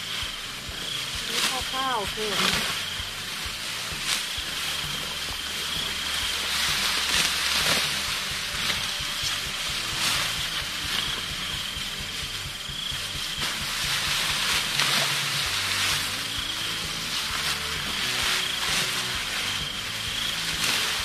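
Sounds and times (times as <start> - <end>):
dry rice stalks rustling: 0.0 - 21.0.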